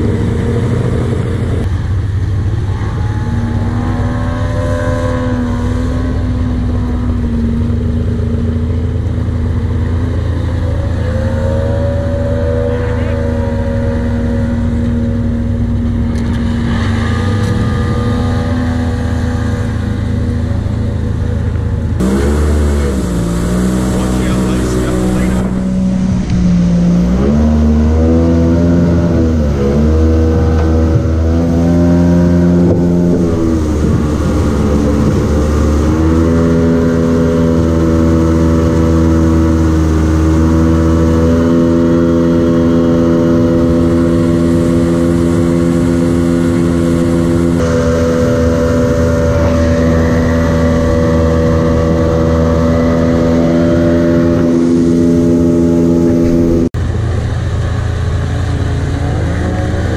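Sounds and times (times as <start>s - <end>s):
jet boat engine running: 0.0s - 59.9s.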